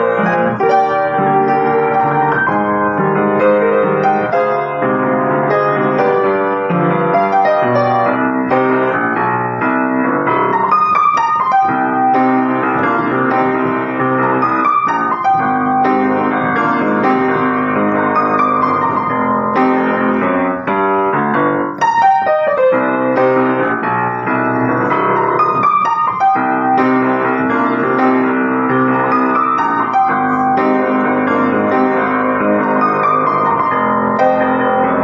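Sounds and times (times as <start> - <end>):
electric piano jazz-funk tune: 0.0 - 35.0.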